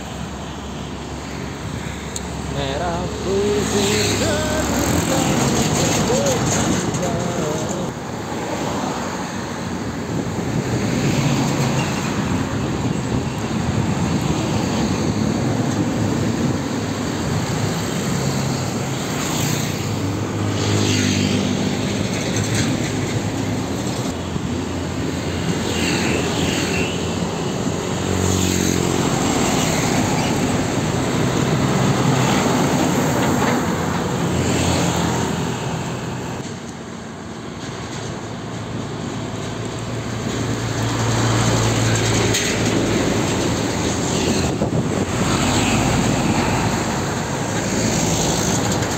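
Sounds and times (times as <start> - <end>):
heavy diesel trucks passing: 0.0 - 48.9.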